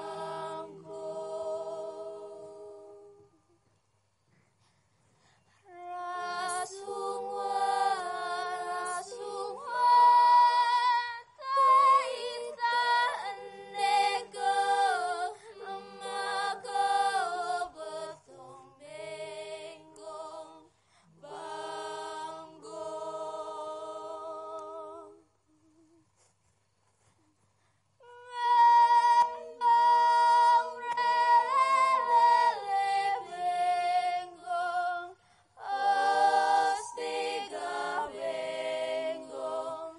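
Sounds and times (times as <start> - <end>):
voices singing in harmony: 0.0 - 3.7, 5.6 - 26.0, 28.0 - 39.9.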